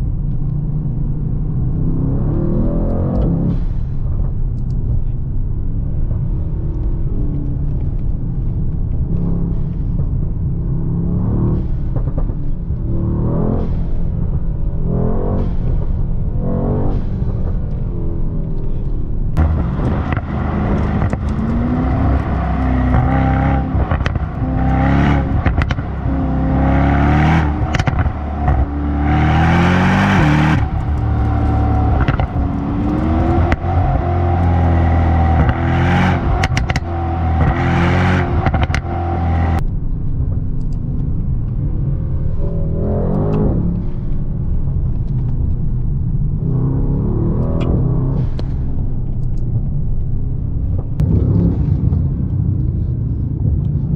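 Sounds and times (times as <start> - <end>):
car engine accelerating: 0.0 - 53.9
exhaust cracks: 2.8 - 53.9.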